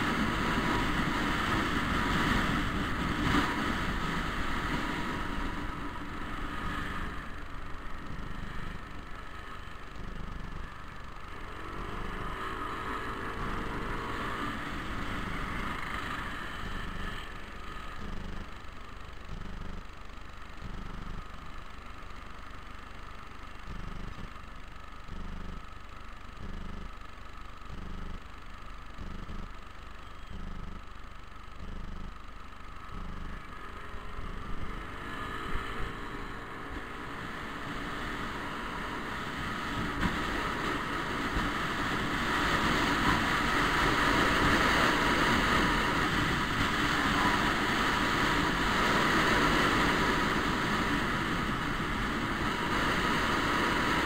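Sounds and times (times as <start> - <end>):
scooter engine idling: 0.0 - 54.0
scooter engine whine: 0.0 - 54.0
wind and road noise: 0.0 - 54.0.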